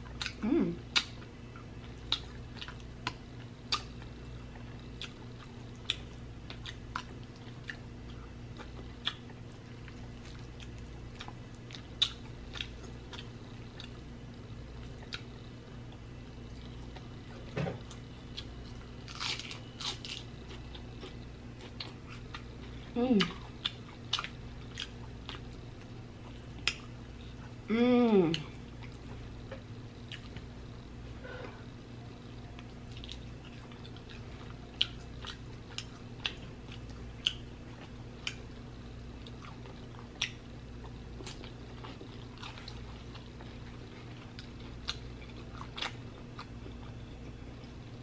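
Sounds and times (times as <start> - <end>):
chewing meat and lettuce: 0.0 - 48.0
faint low hum: 0.0 - 48.0.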